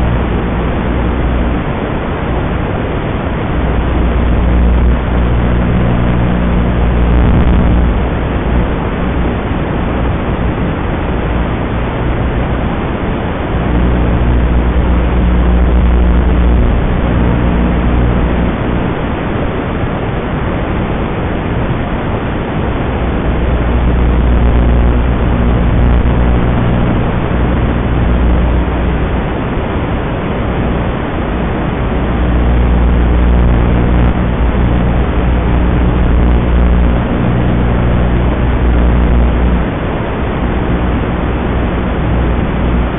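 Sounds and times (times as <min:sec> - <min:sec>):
low droning hum: 0:00.0 - 0:42.9
static hiss: 0:00.0 - 0:42.9.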